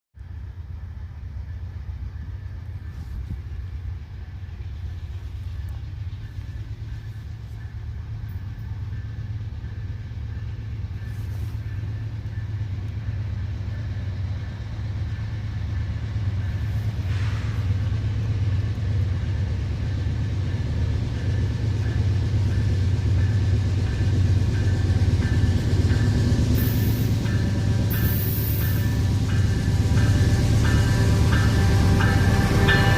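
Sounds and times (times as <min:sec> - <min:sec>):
diesel locomotive engine rumble: 0:00.2 - 0:32.9.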